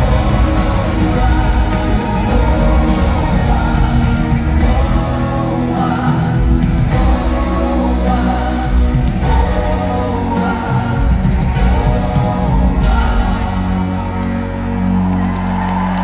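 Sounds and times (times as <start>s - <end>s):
voices singing together: 0.0s - 14.0s
live pop band playing: 0.0s - 16.0s.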